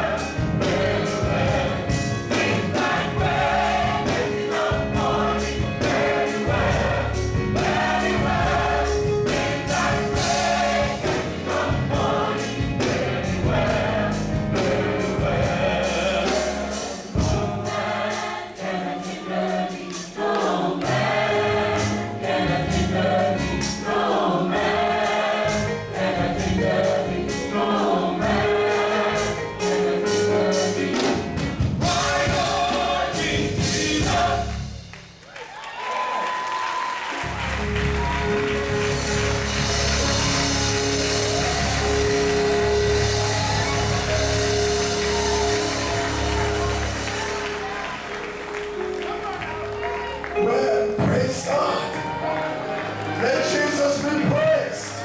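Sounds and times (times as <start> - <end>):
bass: 0.0 - 18.4, 20.8 - 35.3, 37.2 - 55.0
choir singing: 0.0 - 34.9, 37.2 - 55.0
drums: 0.0 - 49.0.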